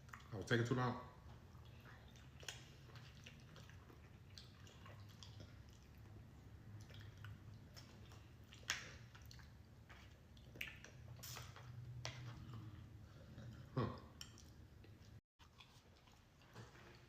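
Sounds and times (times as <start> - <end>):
chewing soft food: 0.0 - 17.0.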